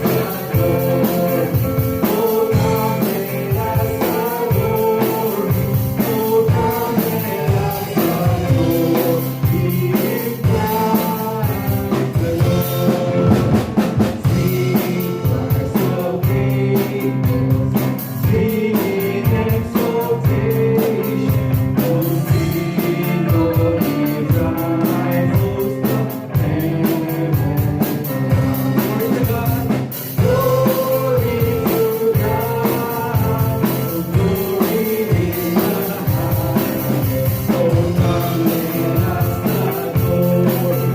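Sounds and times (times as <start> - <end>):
drum kit beat: 0.0 - 40.9
voices singing: 0.0 - 40.9
worship band playing: 0.0 - 40.9.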